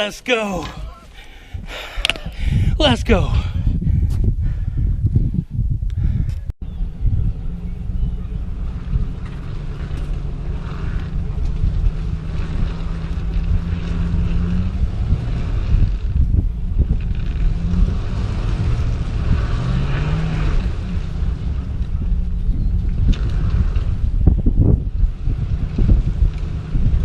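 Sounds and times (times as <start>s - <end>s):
wind buffeting microphone: 0.6s - 27.0s.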